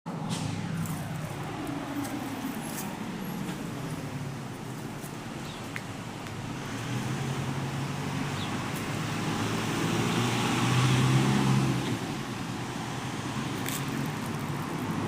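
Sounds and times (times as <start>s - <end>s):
motor vehicle passing: 0.1s - 15.0s.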